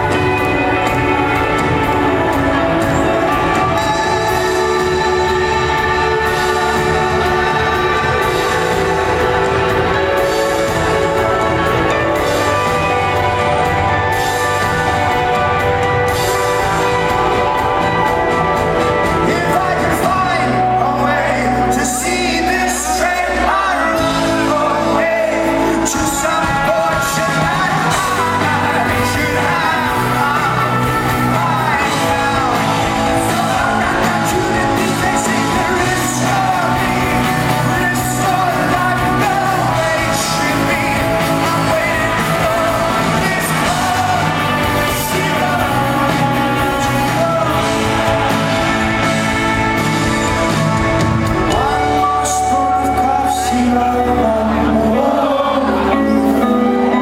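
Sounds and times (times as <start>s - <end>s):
lead singer singing: 0.0s - 57.0s
rock band playing live: 0.0s - 57.0s.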